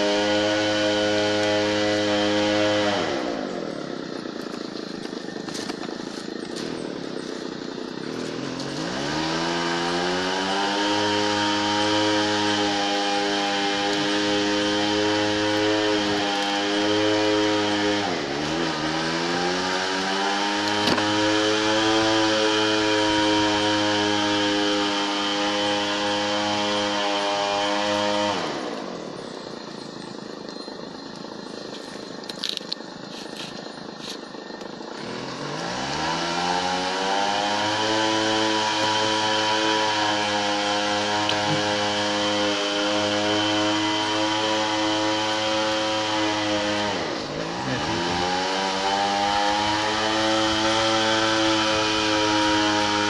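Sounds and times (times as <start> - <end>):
small engine revving: 0.0 - 53.0.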